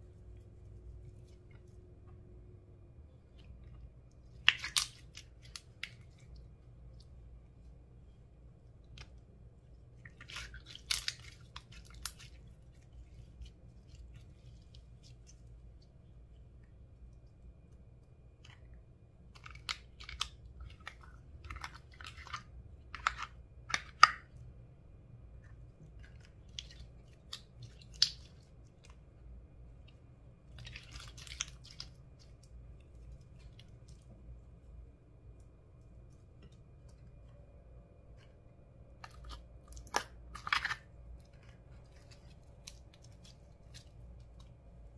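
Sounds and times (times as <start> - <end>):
faint steady low hum: 0.0 - 44.9.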